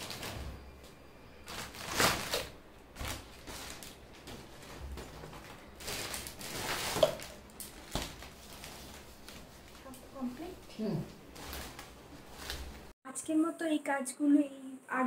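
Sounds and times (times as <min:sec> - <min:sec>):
foil balloons crinkling: 0:00.0 - 0:00.7, 0:01.4 - 0:12.9.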